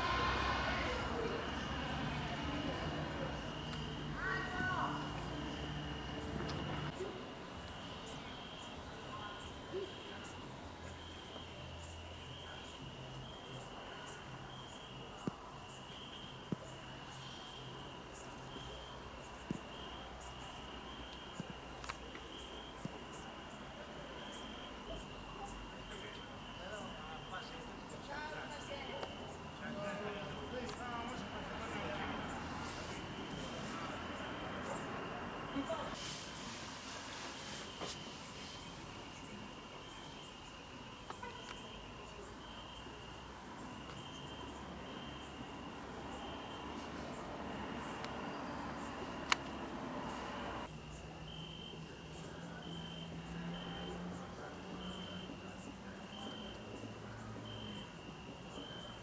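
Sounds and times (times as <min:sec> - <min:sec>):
crickets chirping: 0:00.0 - 0:59.0
faint background hiss: 0:00.0 - 0:59.0.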